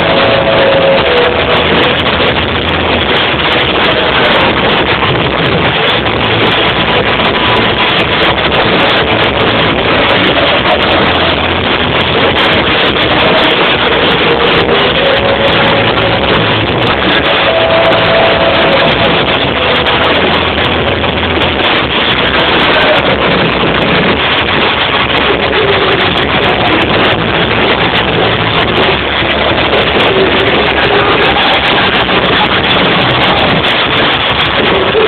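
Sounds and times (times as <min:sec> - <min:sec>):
distorted live rock band: 0:00.0 - 0:35.0.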